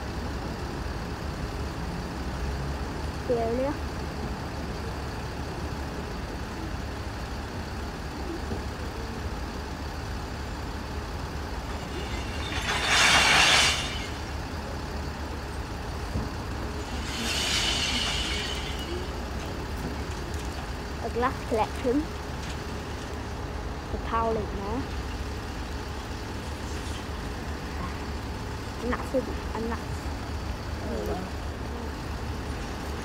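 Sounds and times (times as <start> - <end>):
lorry engine idling: 0.0 - 33.0.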